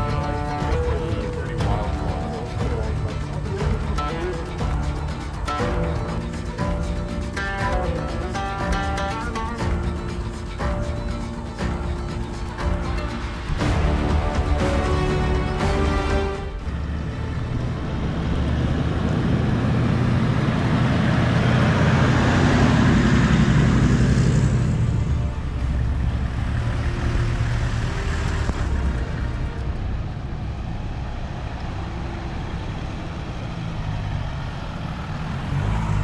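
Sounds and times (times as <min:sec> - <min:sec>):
off-road vehicles driving past: 0:00.0 - 0:36.0.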